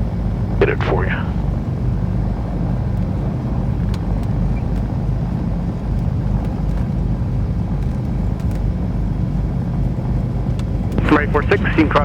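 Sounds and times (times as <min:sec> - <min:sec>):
aircraft piston engines droning: 0:00.0 - 0:12.0.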